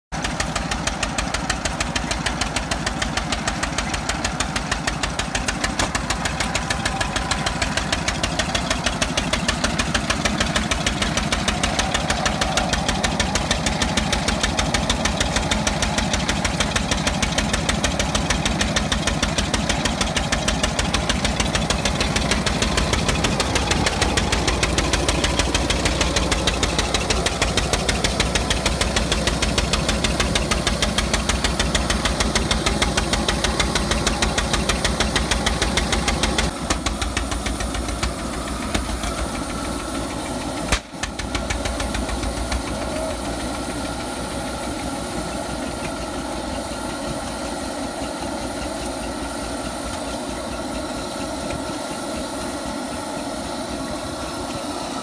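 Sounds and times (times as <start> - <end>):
stationary engine knocking: 0.1 - 55.0.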